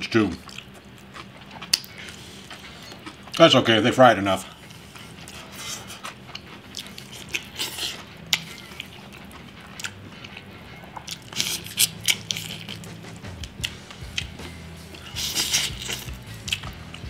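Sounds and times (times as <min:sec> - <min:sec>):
crunchy chewing: 0:00.3 - 0:03.7, 0:04.4 - 0:17.0.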